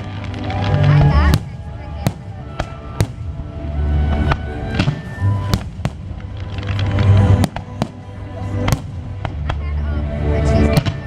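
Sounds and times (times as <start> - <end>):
fireworks bursting: 0.0 - 11.0
music playing: 0.0 - 11.0.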